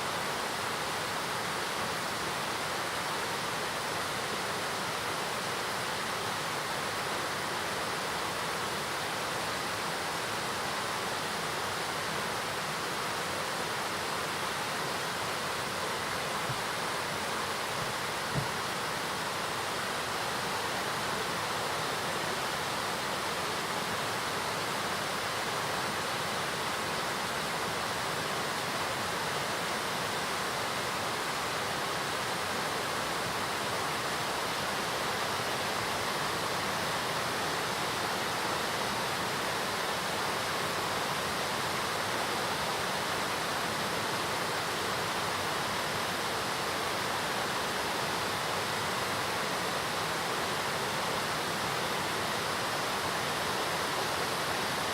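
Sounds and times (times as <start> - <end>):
large waterfall rushing: 0.0 - 54.9.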